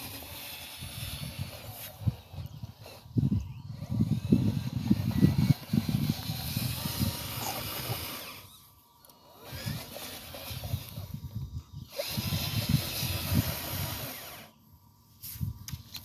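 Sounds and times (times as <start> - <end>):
small electric motor and gearbox: 0.0 - 16.0
toy truck driving over loose dirt: 0.0 - 16.0.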